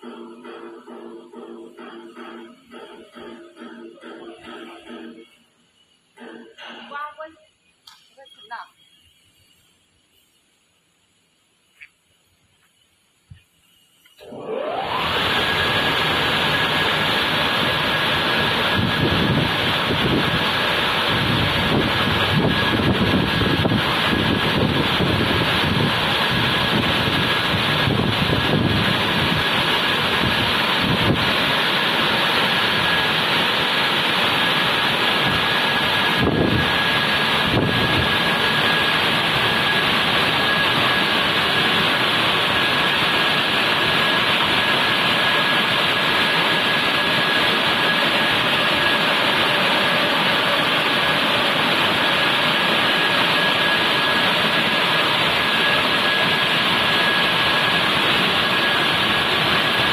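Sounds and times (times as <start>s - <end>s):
car wash machine running: 0.0s - 5.2s, 14.2s - 59.9s
high whine: 11.6s - 59.9s.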